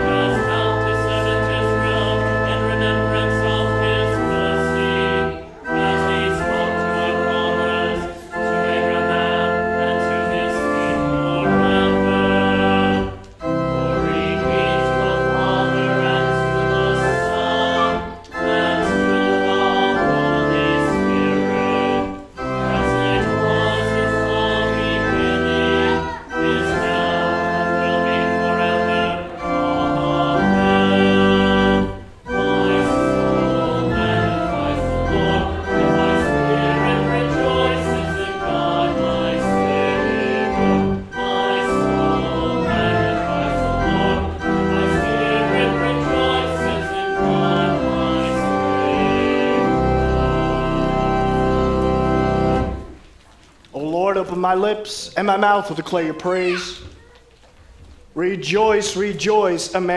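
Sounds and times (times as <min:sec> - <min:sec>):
church organ playing chords: 0:00.0 - 0:53.1.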